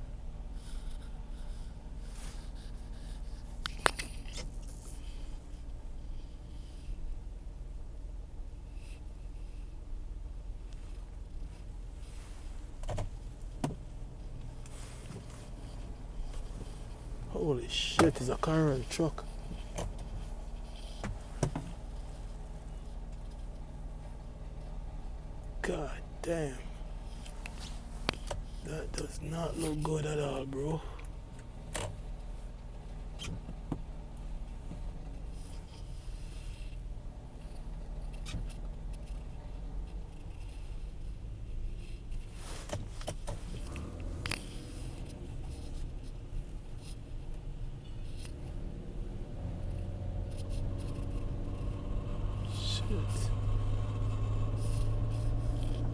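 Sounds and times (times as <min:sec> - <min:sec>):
car cabin engine rumble: 0:00.0 - 0:55.9.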